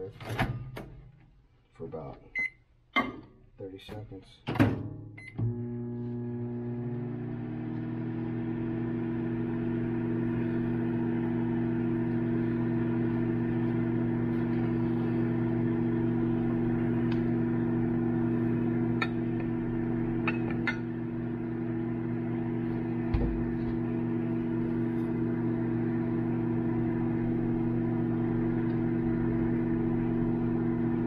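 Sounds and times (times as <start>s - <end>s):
microwave oven humming: 5.2s - 31.0s.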